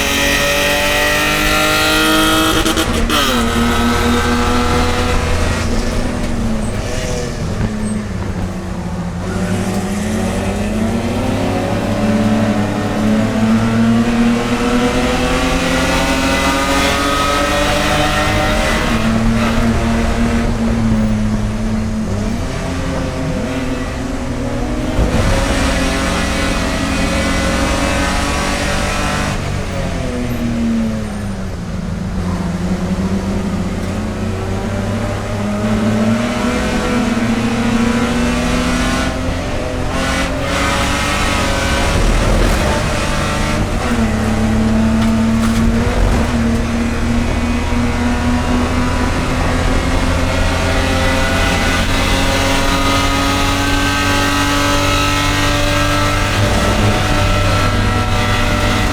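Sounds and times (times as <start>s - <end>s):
race car engine running hard: 0.0s - 58.9s.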